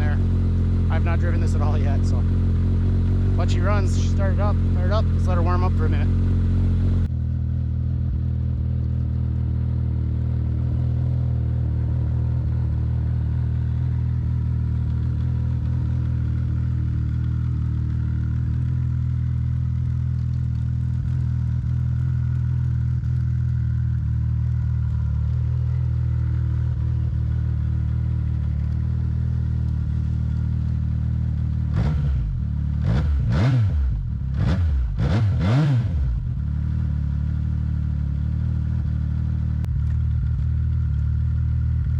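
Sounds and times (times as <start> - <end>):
engine revving: 0.0 - 7.1, 9.8 - 38.9
snowmobile engine idling: 0.0 - 35.0, 36.1 - 41.9.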